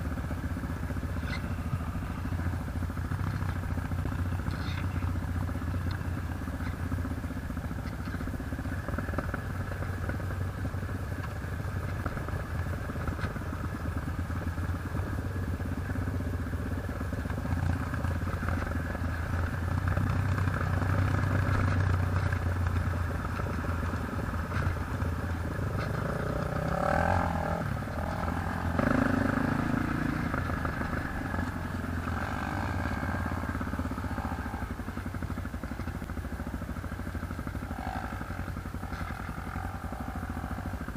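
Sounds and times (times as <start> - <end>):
atv engine running with rattle: 0.0 - 40.9.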